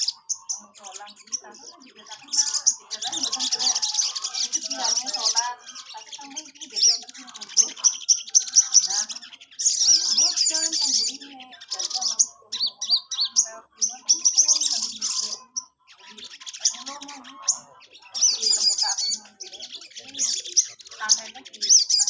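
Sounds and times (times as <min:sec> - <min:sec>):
bird singing warbling trills: 0:00.0 - 0:22.0.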